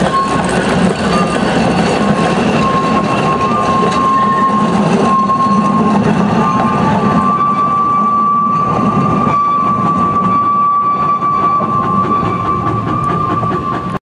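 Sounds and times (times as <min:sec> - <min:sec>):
steady high-pitched tone: 0:00.0 - 0:14.0
train rumbling on track: 0:00.0 - 0:14.0.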